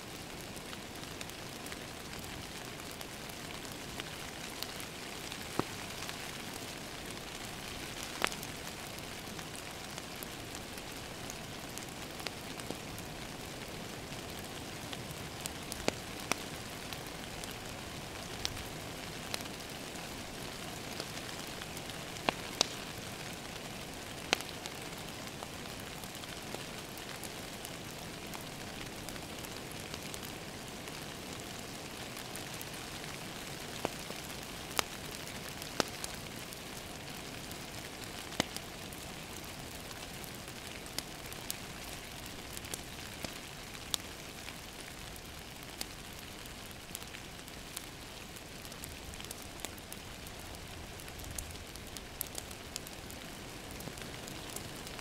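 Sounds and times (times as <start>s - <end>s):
rain on a window: 0.0s - 55.0s
wood fire crackling and popping: 0.1s - 55.0s.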